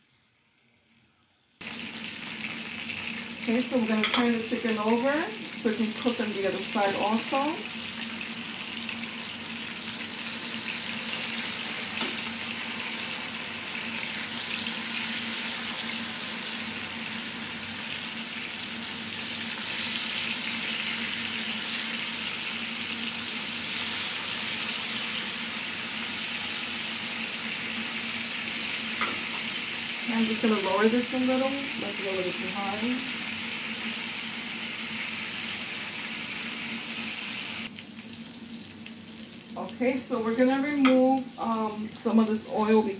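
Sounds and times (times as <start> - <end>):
chicken sizzling in oil: 1.6 - 42.9.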